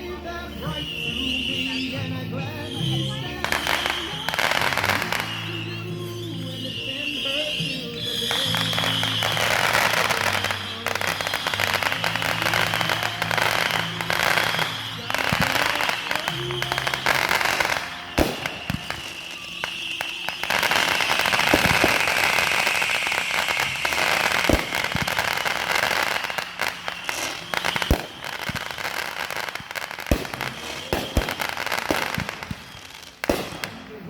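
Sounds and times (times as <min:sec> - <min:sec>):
fireworks crackling: 0:00.0 - 0:34.0
fireworks bangs: 0:00.2 - 0:34.0.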